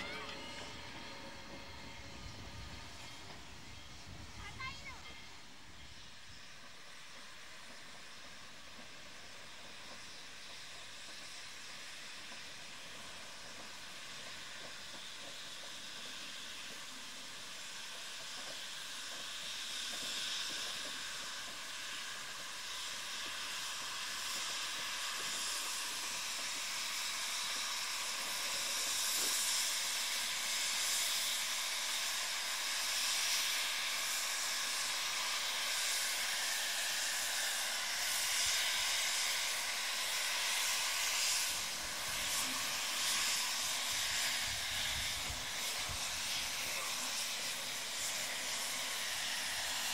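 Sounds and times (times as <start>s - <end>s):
steam jetting from cylinder cocks: 0.0s - 49.9s
steam locomotive hissing: 0.0s - 49.9s.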